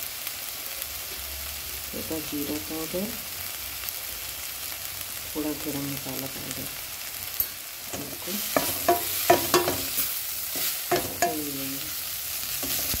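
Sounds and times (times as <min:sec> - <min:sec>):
vegetables sizzling: 0:00.0 - 0:13.0.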